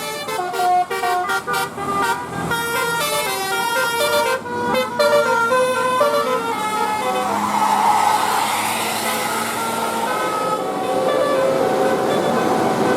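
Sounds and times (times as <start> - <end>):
bus horn playing a tune: 0.0 - 7.7, 9.0 - 12.9.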